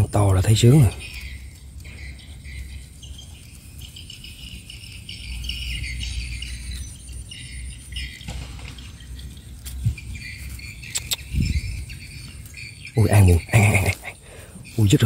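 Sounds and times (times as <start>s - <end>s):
insects chirping: 0.0s - 15.0s
low rumble: 1.0s - 13.6s.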